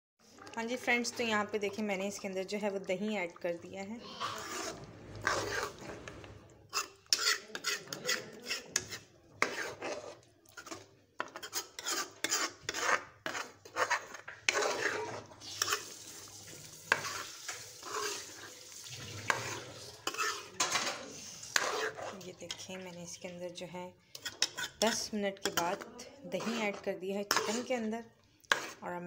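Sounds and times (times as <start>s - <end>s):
metal spoon scraping a pan: 0.4s - 3.1s, 3.7s - 23.4s, 24.1s - 29.0s.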